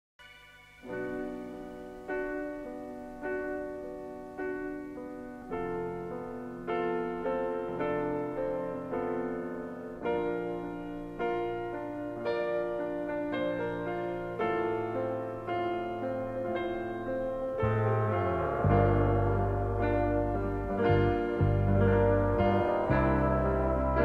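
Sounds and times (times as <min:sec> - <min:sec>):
slow piano chords: 0:00.2 - 0:24.0.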